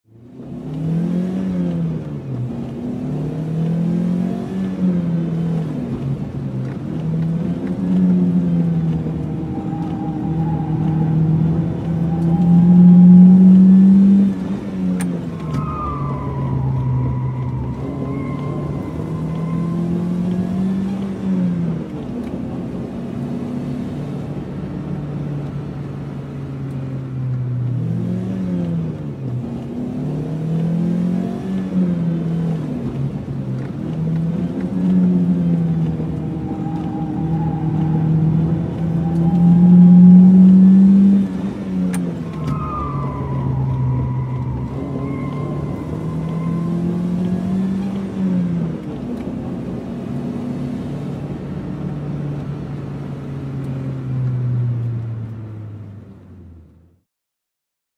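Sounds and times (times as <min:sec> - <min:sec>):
car engine revving while driving: 0:00.0 - 0:57.0
road noise inside car: 0:00.0 - 0:57.1.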